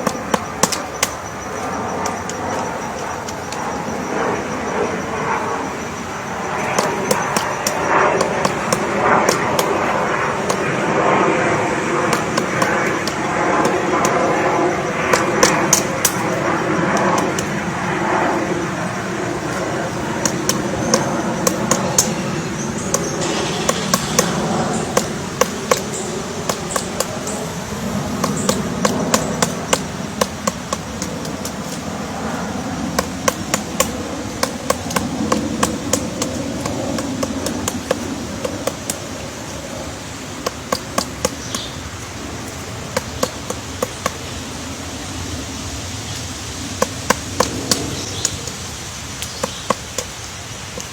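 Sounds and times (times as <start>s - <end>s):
steady background noise: 0.0s - 50.9s.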